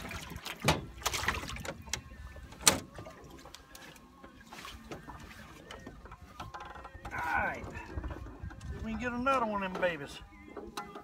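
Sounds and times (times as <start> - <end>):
knocks and clunks of fishing gear: 0.0 - 11.0.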